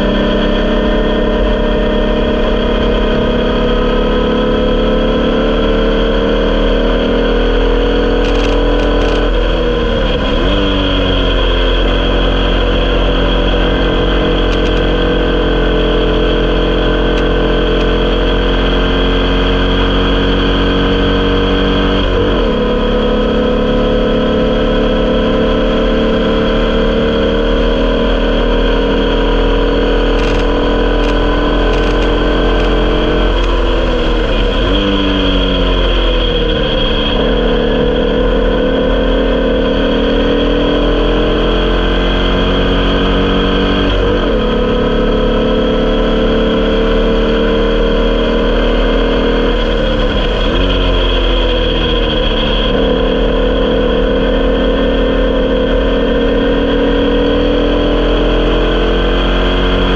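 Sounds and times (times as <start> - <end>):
racing car engine running hard: 0.0 - 59.9.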